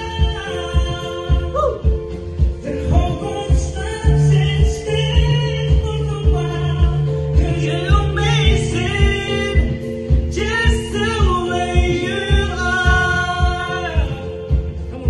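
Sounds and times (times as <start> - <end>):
backing track with steady beat: 0.0 - 15.0
man singing karaoke: 0.0 - 15.0.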